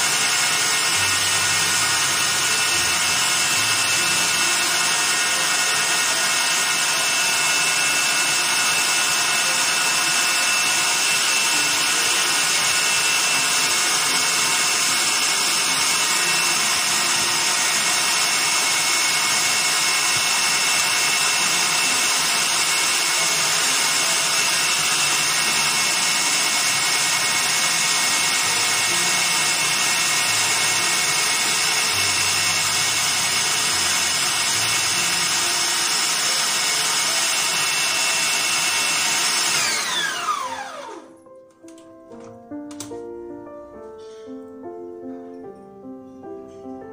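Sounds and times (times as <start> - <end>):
stand mixer motor whining: 0.0 - 43.0.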